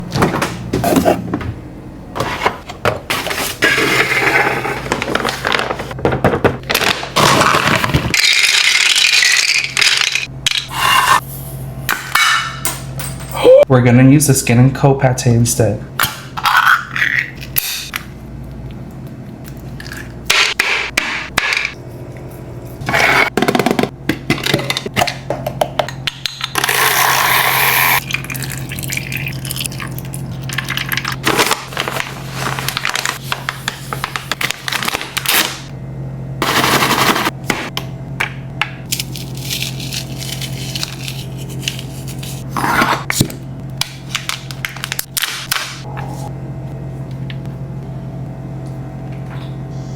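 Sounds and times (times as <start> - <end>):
steady low hum: 0.0 - 8.1, 10.2 - 49.9.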